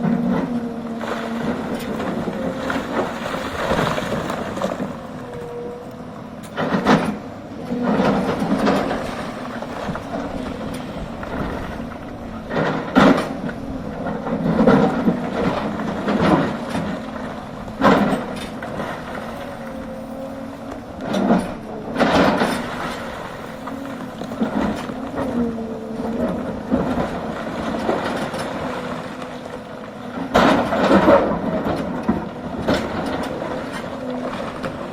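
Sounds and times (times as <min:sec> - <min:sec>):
excavator diesel engine under load: 0:00.0 - 0:34.9
hydraulic whine: 0:00.0 - 0:34.9.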